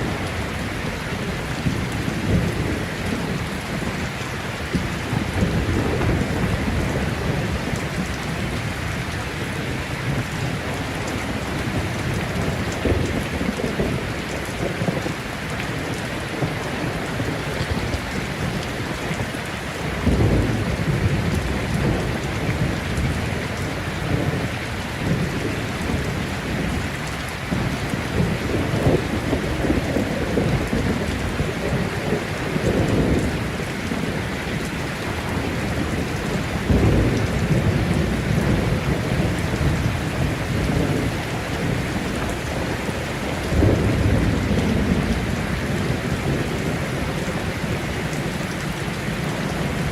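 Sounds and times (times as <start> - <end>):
heavy rain falling: 0.0 - 49.9
low rolling thunder: 0.0 - 49.9.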